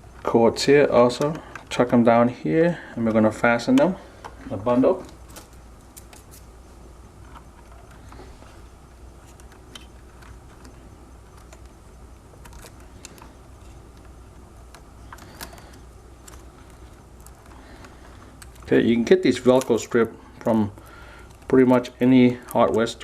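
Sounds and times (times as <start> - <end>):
clicks and rustles of wires: 2.8 - 23.0.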